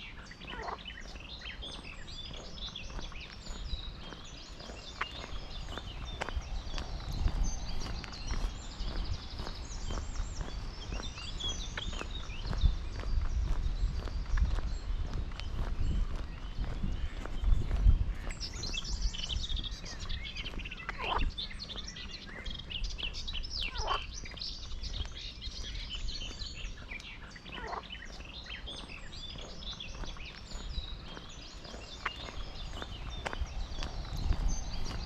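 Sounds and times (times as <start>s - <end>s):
small birds chirping and singing: 0.0s - 35.0s.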